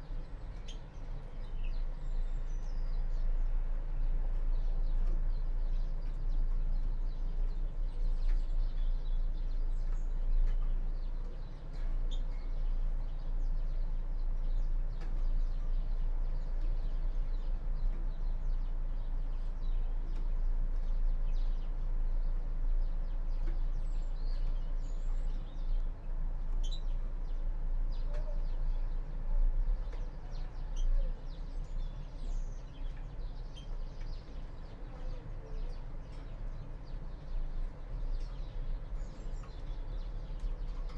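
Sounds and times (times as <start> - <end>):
steady low hum: 0.0 - 40.9
finches chirping: 4.5 - 40.9.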